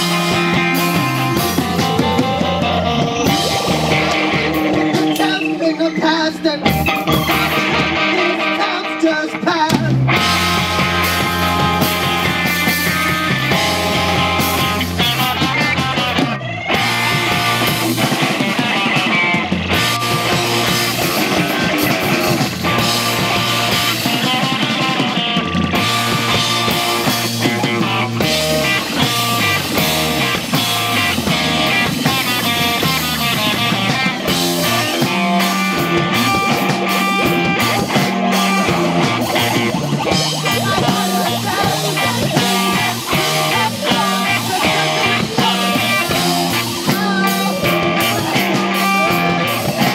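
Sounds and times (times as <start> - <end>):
drum kit: 0.0 - 8.6, 9.3 - 49.9
bass guitar: 0.0 - 49.9
electric guitar: 0.0 - 49.9.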